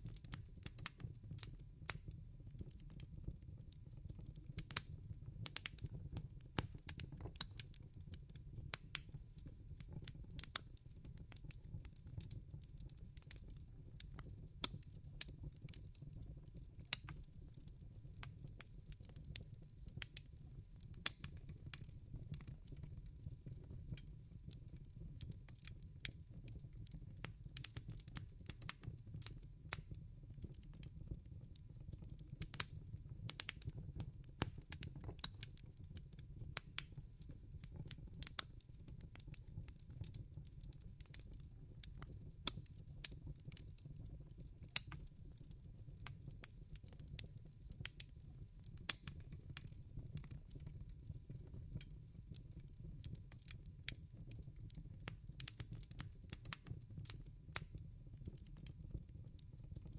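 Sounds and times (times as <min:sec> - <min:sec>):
low rumble of burning logs: 0:00.0 - 0:59.9
wood fire popping and snapping: 0:00.0 - 0:59.9.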